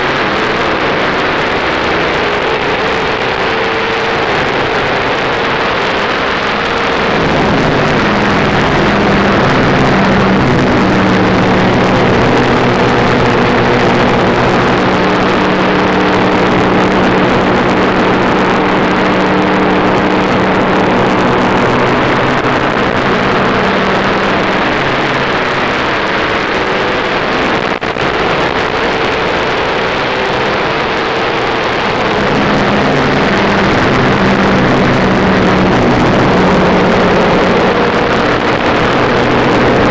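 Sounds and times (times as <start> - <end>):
race car engine running hard: 0.0 - 39.9
wind and road noise: 0.0 - 39.9.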